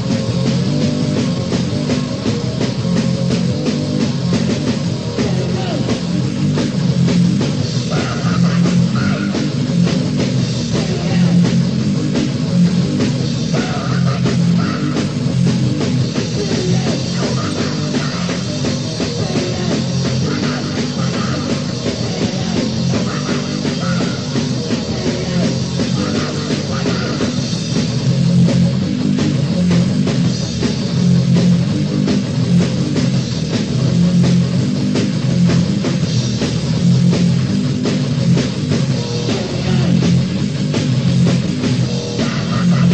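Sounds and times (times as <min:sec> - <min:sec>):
loud punk band playing: 0:00.0 - 0:42.9.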